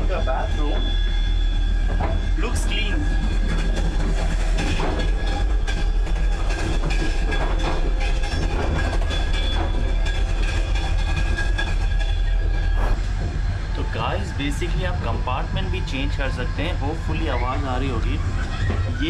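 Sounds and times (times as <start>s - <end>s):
train rumbling from inside carriage: 0.0s - 19.0s.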